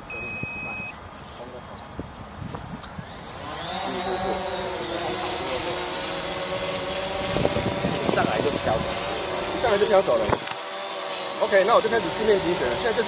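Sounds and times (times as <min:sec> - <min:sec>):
drone propellers whining: 0:02.5 - 0:13.0.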